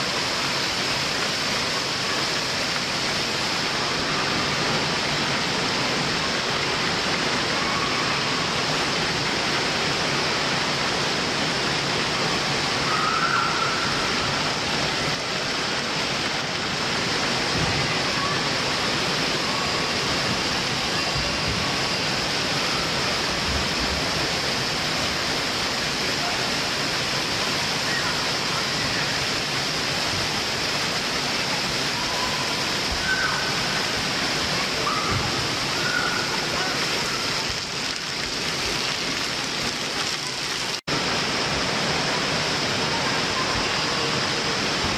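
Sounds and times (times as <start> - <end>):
water rushing down slides: 0.0 - 44.9.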